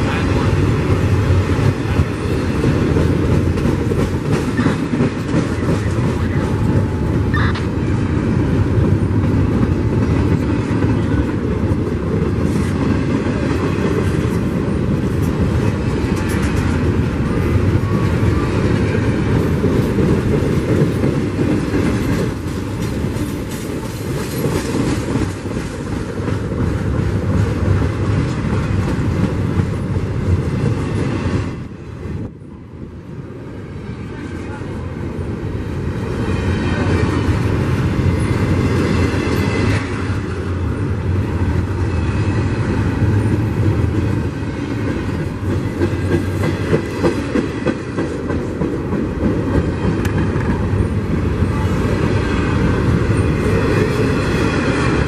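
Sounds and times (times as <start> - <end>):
train wheels clacking over rails: 0.0 - 32.5, 33.8 - 55.0
freight train rumbling and rattling: 0.0 - 55.0.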